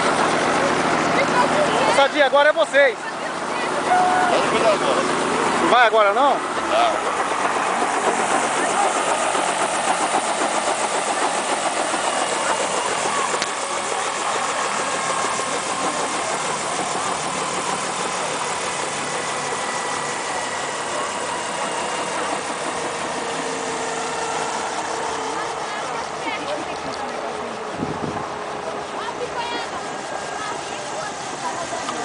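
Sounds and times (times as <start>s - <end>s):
helicopter idling on ground: 0.0s - 32.0s.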